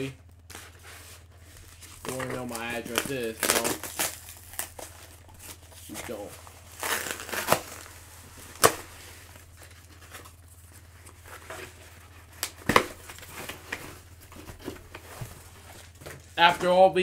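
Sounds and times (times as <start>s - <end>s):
packaging rustling and tearing: 0.4s - 16.6s.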